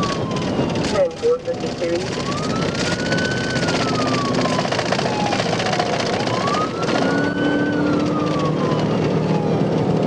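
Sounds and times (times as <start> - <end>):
car engine and road noise: 0.0 - 10.0
police siren wailing: 0.0 - 10.0.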